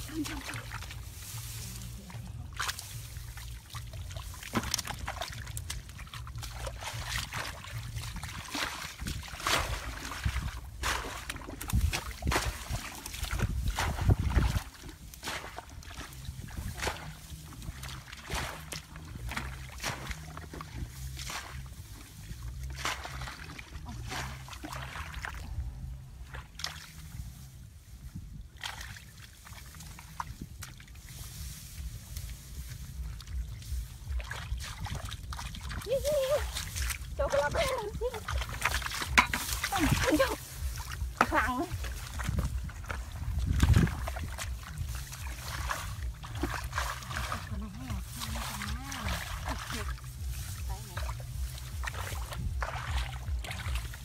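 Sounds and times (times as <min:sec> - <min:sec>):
hands splashing in muddy water: 0:00.0 - 0:54.0
steady low rumble: 0:00.0 - 0:54.0.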